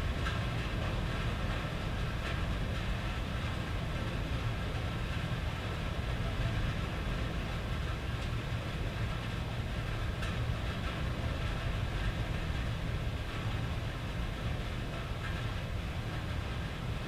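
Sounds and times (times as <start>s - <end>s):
rain on a tin roof: 0.0s - 17.0s.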